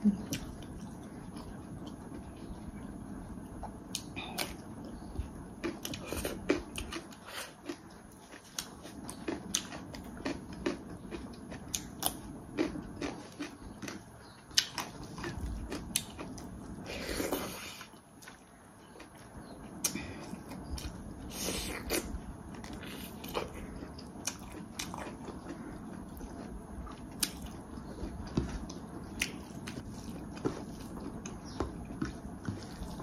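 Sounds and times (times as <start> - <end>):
person chewing: 3.6 - 33.0.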